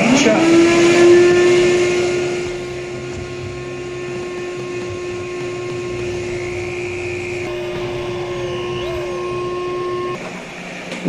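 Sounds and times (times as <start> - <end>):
shop vac whining: 0.0 - 10.8.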